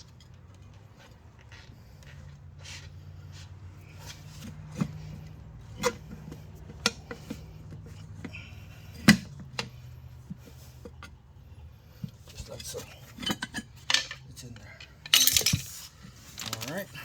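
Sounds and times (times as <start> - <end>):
tire tools clinking on metal rim: 0.0 - 2.3, 3.7 - 17.0.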